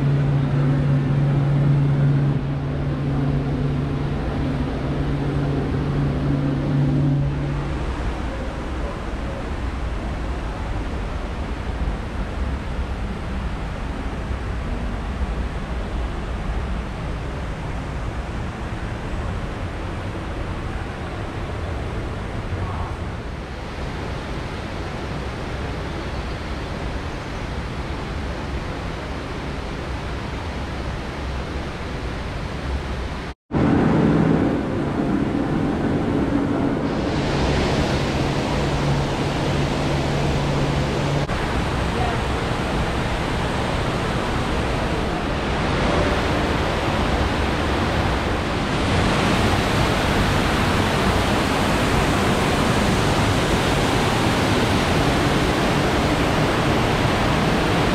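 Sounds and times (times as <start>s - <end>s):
indoor waterfall rushing: 0.0s - 57.9s.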